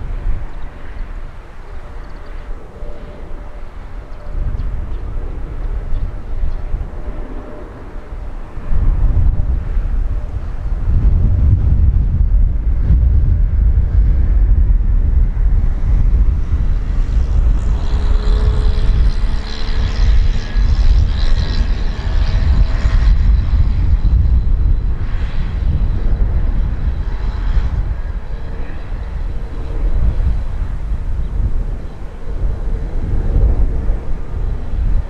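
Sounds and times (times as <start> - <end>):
high fan whine: 0.0 - 35.0
jet engine rumble: 0.0 - 35.0.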